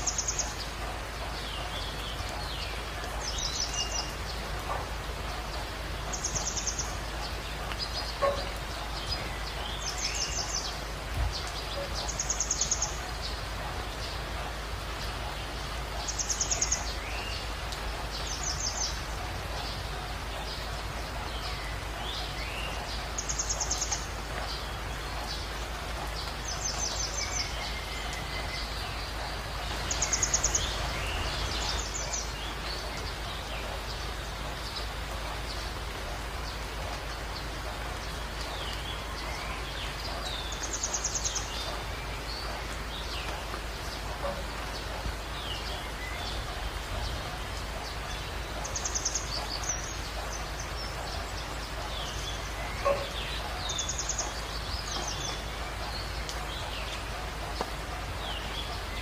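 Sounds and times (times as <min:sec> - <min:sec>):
rain hissing: 0:00.0 - 0:59.0
songbirds chirping: 0:00.0 - 0:59.0
stream running over rocks: 0:00.0 - 0:59.0.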